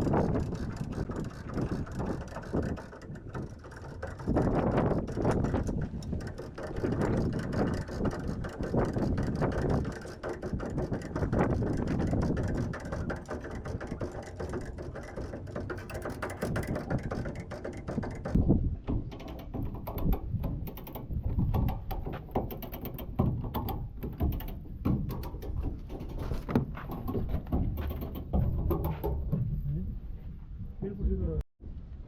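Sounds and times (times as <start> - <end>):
mechanical clicking and knocking: 0.0 - 29.5.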